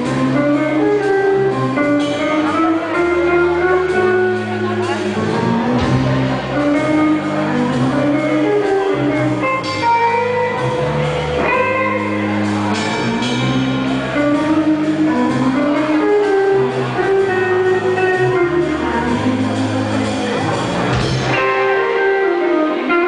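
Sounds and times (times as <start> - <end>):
drums: 0.0 - 23.0
electric guitar: 0.0 - 23.0
upright bass low notes: 0.0 - 23.0.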